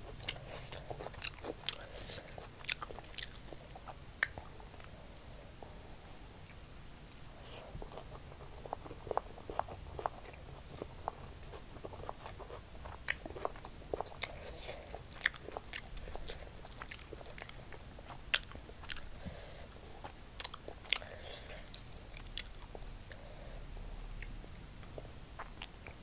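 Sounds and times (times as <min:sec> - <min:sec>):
chewing rice: 0:00.0 - 0:06.7, 0:07.4 - 0:26.0.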